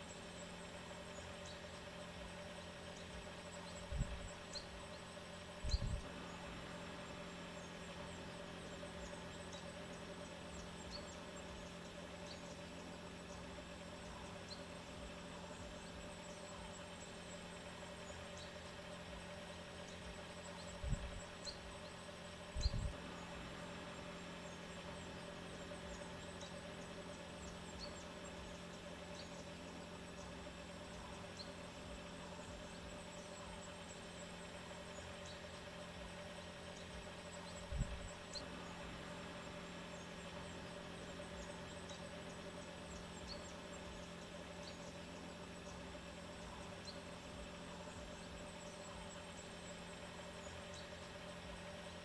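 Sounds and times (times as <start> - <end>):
vehicle engines idling: 0.0 - 52.0.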